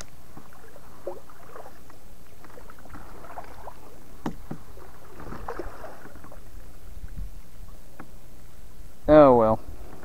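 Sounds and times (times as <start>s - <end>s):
kayak paddle strokes splashing: 0.0s - 8.5s
low steady rumble: 0.0s - 10.0s.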